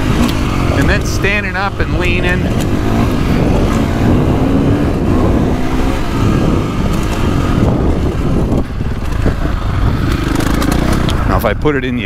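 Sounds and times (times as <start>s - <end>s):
motorcycle engine revving: 0.0s - 12.0s
wind buffeting microphone: 0.0s - 12.0s.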